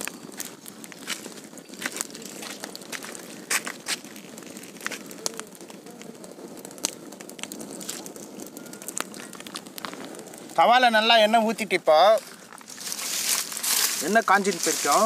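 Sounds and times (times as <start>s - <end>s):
oil hissing and popping: 0.0s - 15.0s
wood fire crackling: 0.0s - 15.0s.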